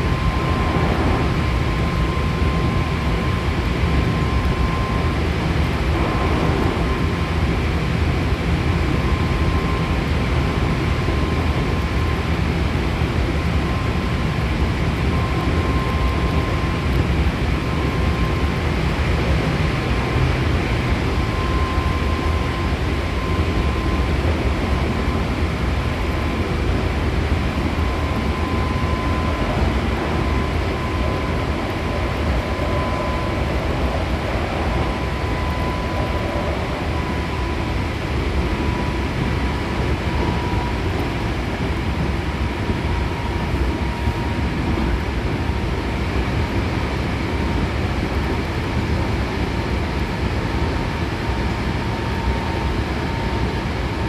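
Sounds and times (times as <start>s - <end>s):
train wheels rumbling on track: 0.0s - 13.2s, 15.2s - 53.4s.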